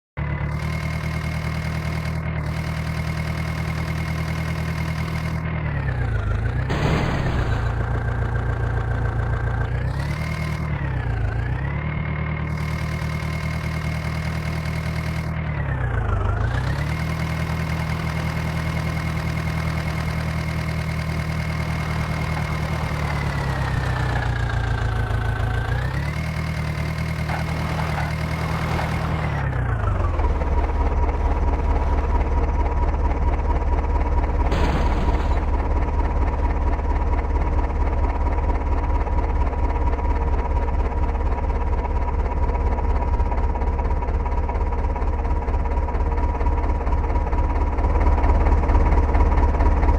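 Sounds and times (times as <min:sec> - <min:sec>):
tractor diesel engine running: 0:00.2 - 0:49.9.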